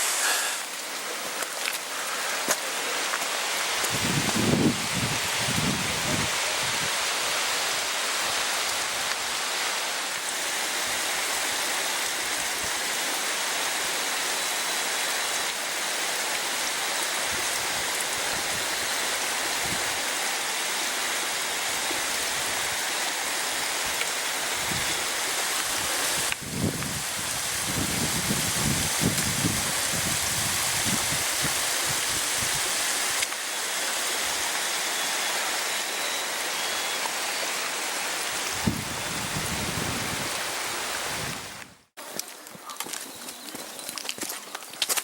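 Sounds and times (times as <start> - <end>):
running water rushing: 0.0 - 42.4.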